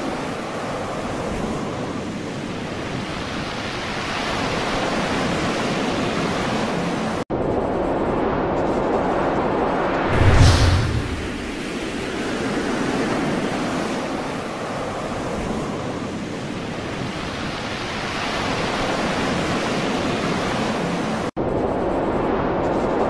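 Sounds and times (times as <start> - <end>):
heavy sea: 0.0 - 23.0
storm wind: 0.0 - 23.0.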